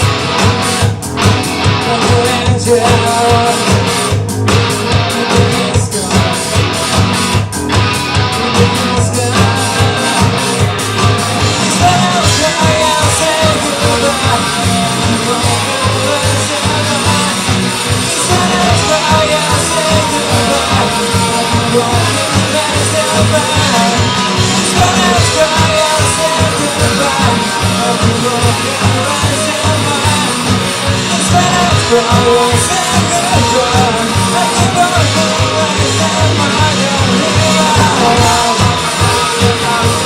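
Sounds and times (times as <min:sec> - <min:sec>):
rock band playing: 0:00.0 - 0:40.0
person singing: 0:01.6 - 0:04.2, 0:04.8 - 0:06.8, 0:08.2 - 0:40.0.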